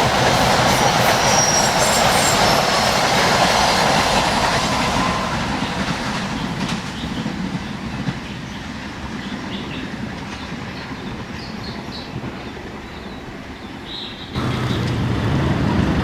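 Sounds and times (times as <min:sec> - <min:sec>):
train wheels clattering over rails: 0:00.0 - 0:13.1, 0:14.4 - 0:16.0.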